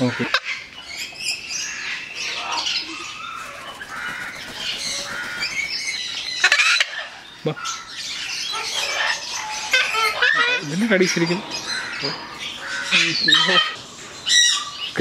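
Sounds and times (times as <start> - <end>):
parrots squawking and chirping: 0.0 - 15.0.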